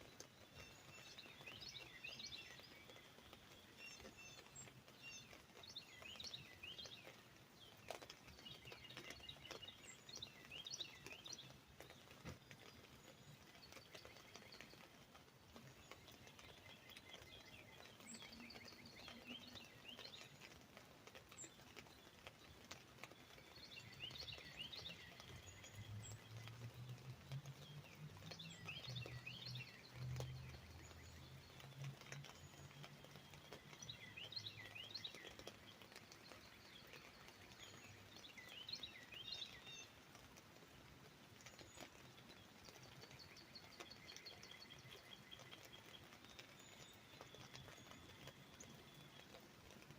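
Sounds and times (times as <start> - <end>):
raindrops tapping on umbrella: 0.0 - 49.9
songbirds chirping: 0.0 - 49.9.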